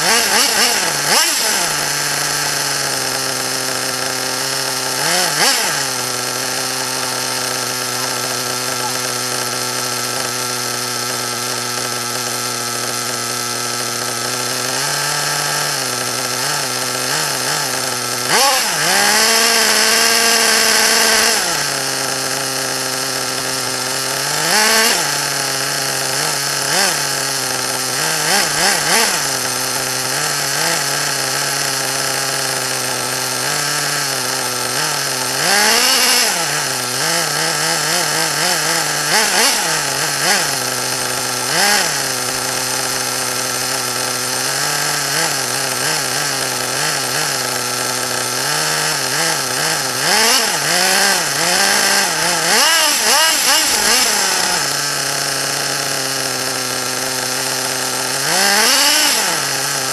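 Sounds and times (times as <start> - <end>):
small engine idling and revving: 0.0 - 59.9.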